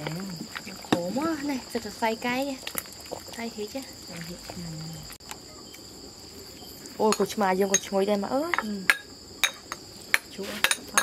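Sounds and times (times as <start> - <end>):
crickets droning: 0.0 - 11.0.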